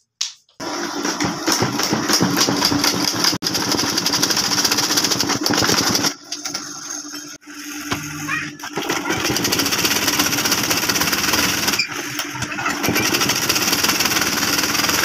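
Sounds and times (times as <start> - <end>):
sewing machine rattling: 0.6 - 7.0, 7.6 - 15.0.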